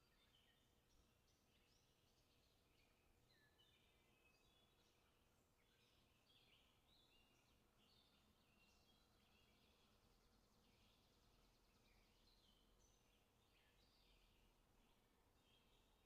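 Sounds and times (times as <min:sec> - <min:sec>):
faint bird chirps: 0:00.0 - 0:16.0
low background hiss: 0:00.0 - 0:16.0.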